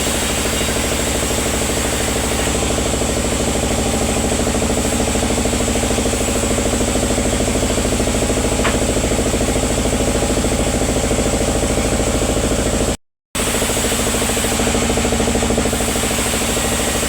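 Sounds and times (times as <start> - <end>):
sawmill engine pulsing: 0.0 - 17.0.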